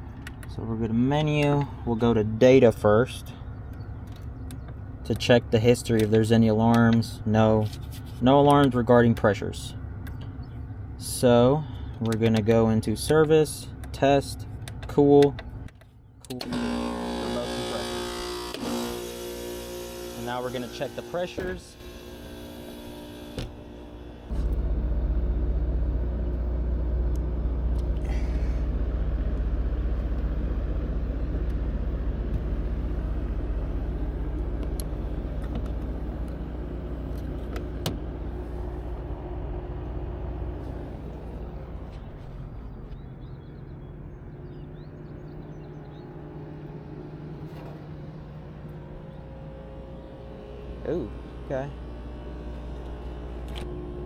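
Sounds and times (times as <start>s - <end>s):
air conditioner compressor humming: 0.0s - 54.0s.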